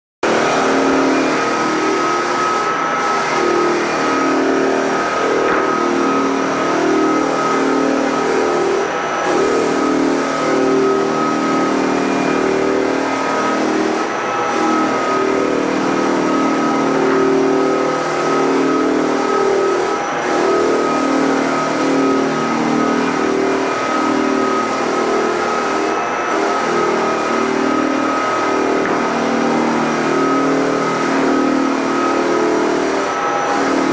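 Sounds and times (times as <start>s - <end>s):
floor sander motor hum: 0.2s - 33.9s
high whine: 0.2s - 33.9s.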